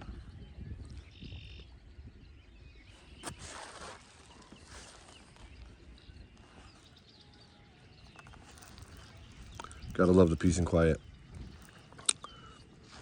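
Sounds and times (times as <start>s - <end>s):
bird chirps: 0.0s - 13.0s
wind rumble on microphone: 0.0s - 13.0s.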